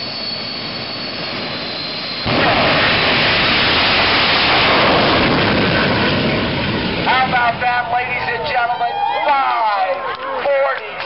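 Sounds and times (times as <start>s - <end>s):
jet engine roaring at full thrust: 0.0s - 10.2s.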